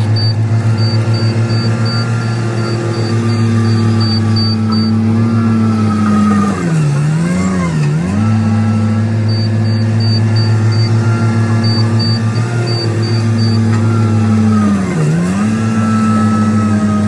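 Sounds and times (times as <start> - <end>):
diesel engine running at high speed: 0.0 - 17.0.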